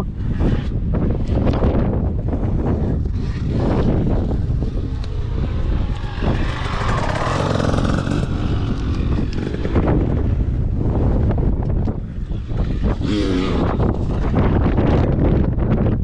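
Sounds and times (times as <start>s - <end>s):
wind buffeting microphone: 0.0s - 16.0s
dirt bike engine running: 1.0s - 16.0s.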